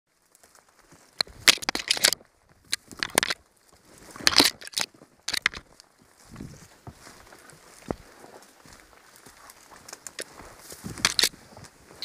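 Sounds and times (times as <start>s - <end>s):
branches crackling and brushing: 0.1s - 12.0s.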